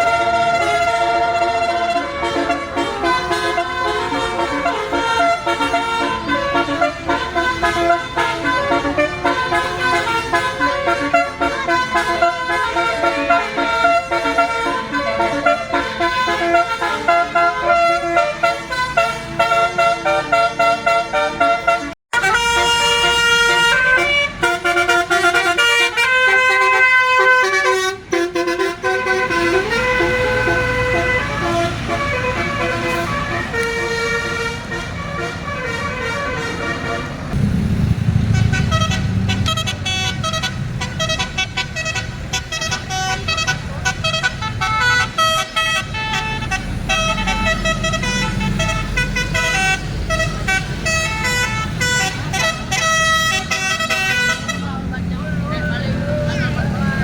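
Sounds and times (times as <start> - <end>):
multi-tone air horns playing tunes: 0.0 - 37.4, 38.1 - 57.0.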